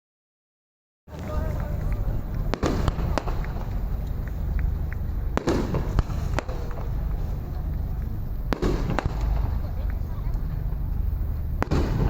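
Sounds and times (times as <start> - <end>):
fireworks bangs: 1.1 - 12.0
low rumble: 1.1 - 12.0.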